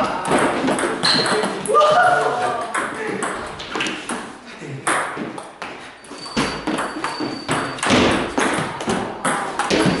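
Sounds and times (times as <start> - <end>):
ping pong balls clicking: 0.0 - 10.0.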